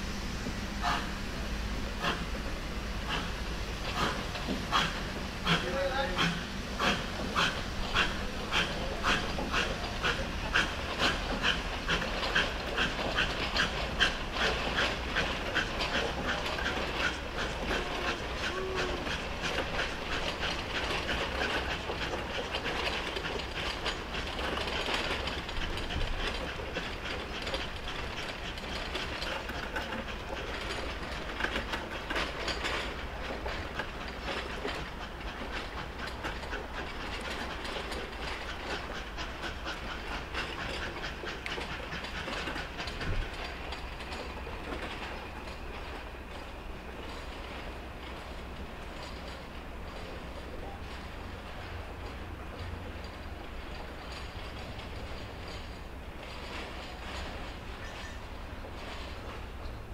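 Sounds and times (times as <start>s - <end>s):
steam locomotive exhaust chuffs: 0.0s - 59.9s
train rumble: 0.0s - 59.9s.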